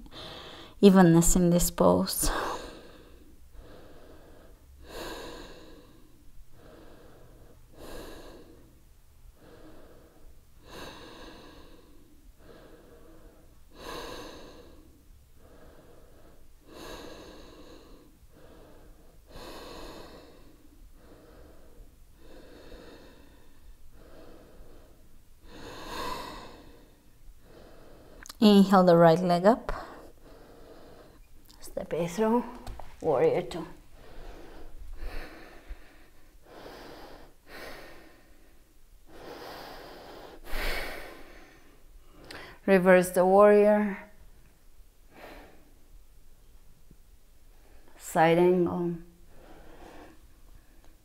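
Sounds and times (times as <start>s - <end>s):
woman breathing slowly: 0.0s - 0.8s, 2.2s - 28.7s, 29.7s - 46.1s, 47.4s - 48.0s, 48.6s - 51.0s.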